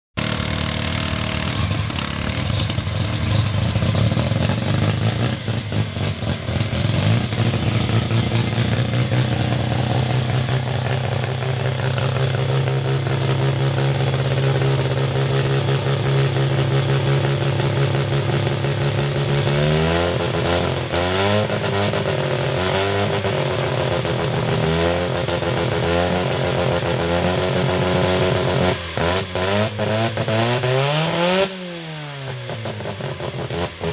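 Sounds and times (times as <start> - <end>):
rotary engine revving: 0.2 - 33.9.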